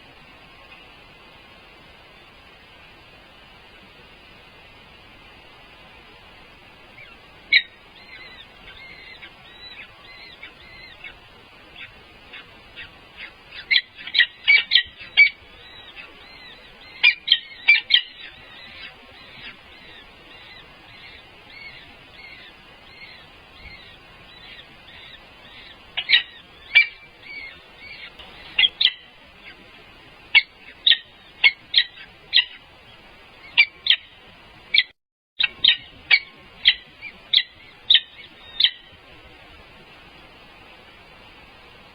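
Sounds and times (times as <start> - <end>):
faint bird twittering: 0.0 - 41.0
birds chirping: 0.0 - 41.9.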